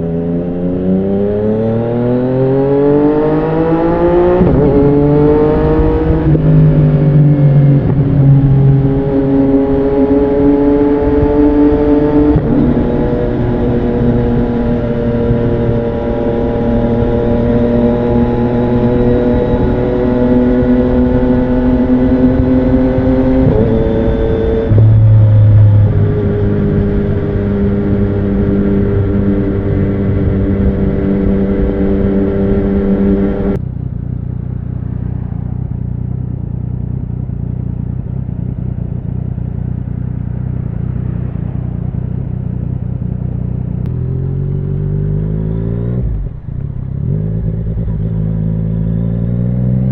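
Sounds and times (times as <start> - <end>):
motorcycle engine: 0.0 - 49.9.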